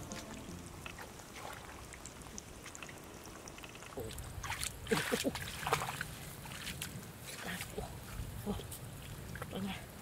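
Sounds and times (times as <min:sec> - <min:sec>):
water and mud sloshing: 0:00.0 - 0:02.9, 0:04.0 - 0:09.8.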